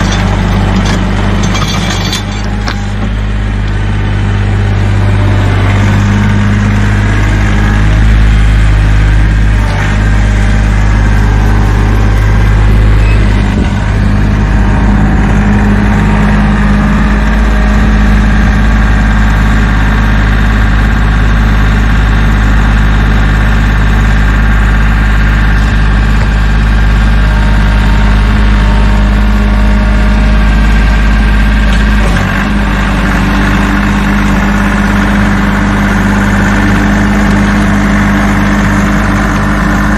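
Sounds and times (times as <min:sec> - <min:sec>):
rotary tiller churning soil: 0:00.0 - 0:03.3, 0:09.5 - 0:39.9
tractor diesel engine running: 0:00.0 - 0:39.9.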